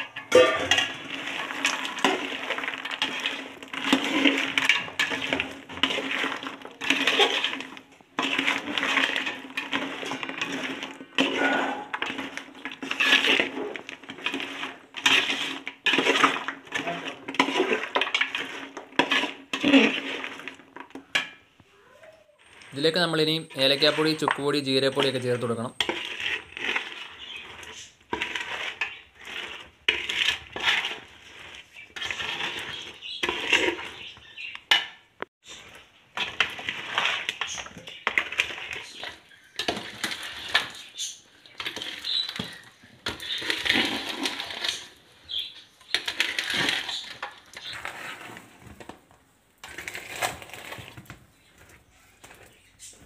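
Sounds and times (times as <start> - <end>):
spoon scraping metal pot: 0.0 - 21.5, 22.4 - 48.9.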